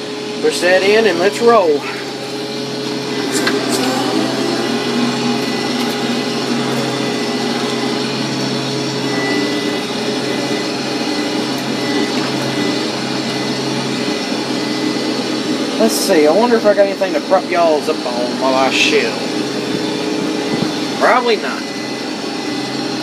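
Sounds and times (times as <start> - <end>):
combine harvester mechanical drone: 0.0 - 23.0.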